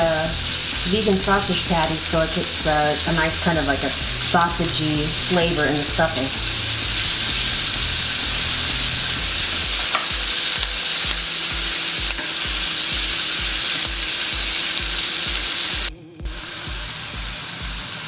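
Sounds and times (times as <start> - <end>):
vegetables sizzling in a skillet: 0.0 - 18.0.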